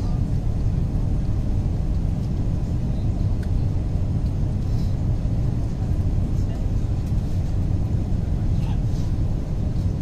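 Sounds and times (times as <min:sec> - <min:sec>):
airliner cabin engine and airflow rumble: 0:00.0 - 0:10.0.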